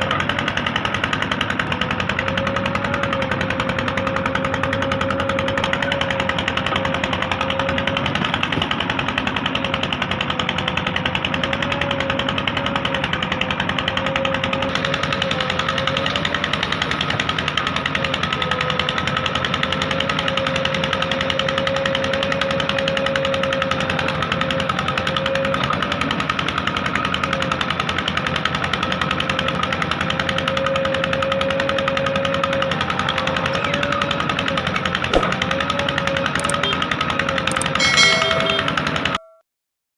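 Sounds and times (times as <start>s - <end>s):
diesel engine clattering: 0.0s - 39.4s.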